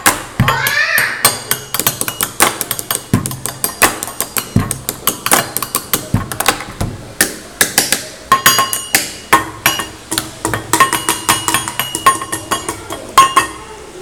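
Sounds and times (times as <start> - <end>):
fingers tapping on wooden table: 0.0 - 13.4.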